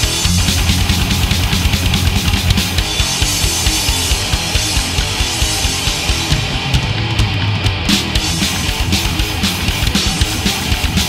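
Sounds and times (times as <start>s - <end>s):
distorted electric guitars: 0.0s - 11.0s
fast driving drums: 0.0s - 11.0s.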